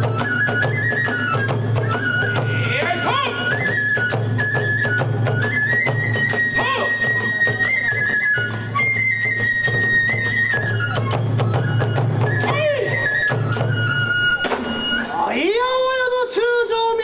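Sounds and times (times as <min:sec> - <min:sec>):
drum strokes: 0:00.0 - 0:15.4
bamboo flute melody: 0:00.0 - 0:16.2.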